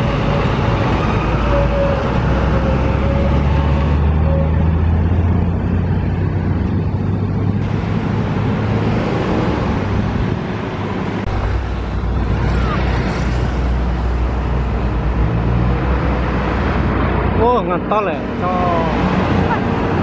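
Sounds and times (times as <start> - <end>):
low engine drone: 0.0 - 17.4
vehicle rushing by: 0.0 - 20.0.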